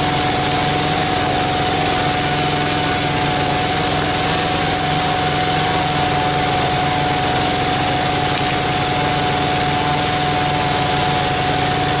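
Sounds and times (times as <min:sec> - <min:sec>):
constant high whine: 0:00.0 - 0:12.0
diesel engine running: 0:00.0 - 0:12.0.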